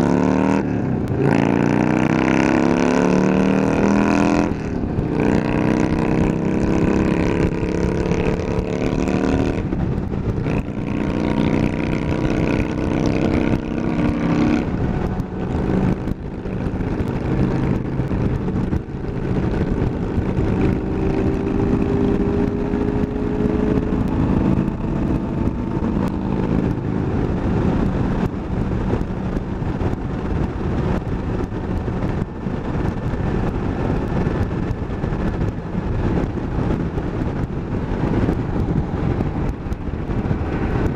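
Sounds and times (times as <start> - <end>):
motorcycle engine shifting gears: 0.0 - 40.9
wind noise on microphone: 0.0 - 40.9.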